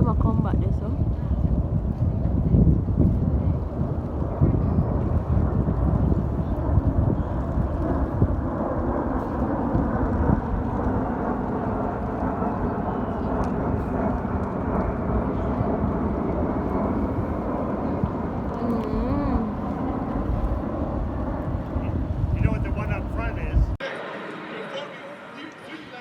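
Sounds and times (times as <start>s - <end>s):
aircraft engine rumble: 0.0s - 25.2s.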